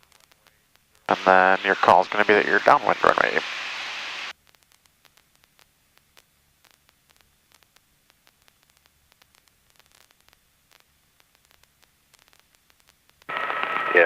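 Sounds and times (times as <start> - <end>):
faint static hiss with crackles: 0.0 - 14.0.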